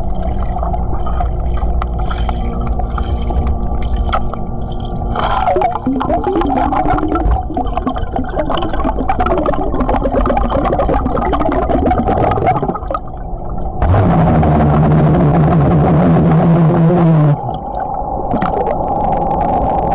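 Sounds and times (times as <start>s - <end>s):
underwater gurgling and bubbling: 0.0s - 19.9s.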